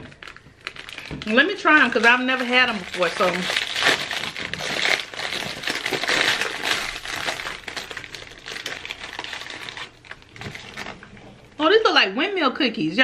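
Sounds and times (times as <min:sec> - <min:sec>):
plastic wrapper crinkling: 0:00.0 - 0:11.3.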